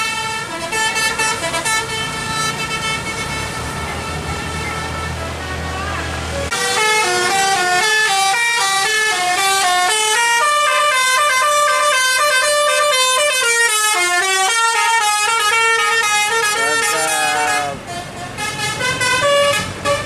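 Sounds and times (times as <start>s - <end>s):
musical bus horn melody: 0.0s - 5.8s, 6.4s - 20.0s.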